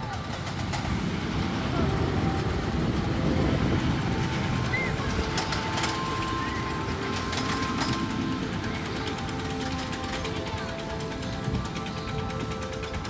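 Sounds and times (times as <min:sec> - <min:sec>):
roller coaster rumbling on track: 0:00.0 - 0:13.0
scattered clicks: 0:02.4 - 0:13.0.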